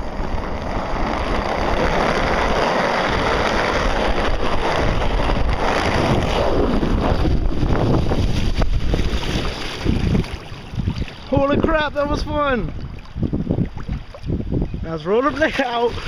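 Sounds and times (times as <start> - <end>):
skates splashing through water: 0.0 - 16.0
wind buffeting microphone: 0.0 - 16.0.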